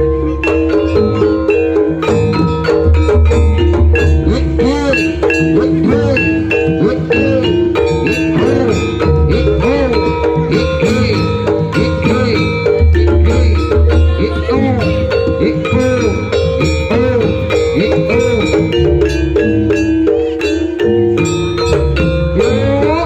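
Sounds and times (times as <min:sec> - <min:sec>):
drums: 0:00.0 - 0:23.0
metal mallet percussion melody: 0:00.0 - 0:23.0.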